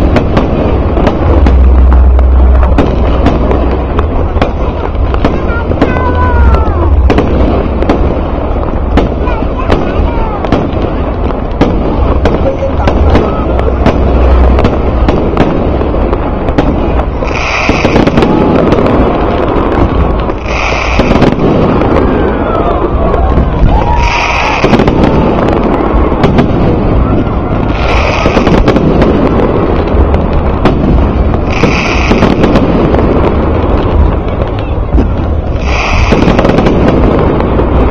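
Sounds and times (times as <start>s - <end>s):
crowd voices: 0.0s - 37.9s
fireworks pops and bangs: 0.0s - 37.9s.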